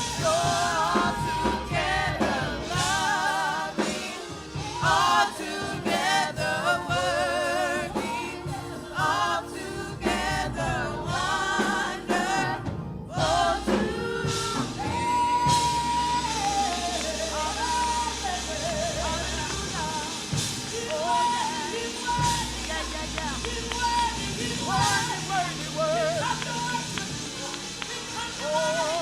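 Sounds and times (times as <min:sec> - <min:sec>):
gospel worship singing: 0:00.0 - 0:29.0
musical accompaniment: 0:00.0 - 0:29.0.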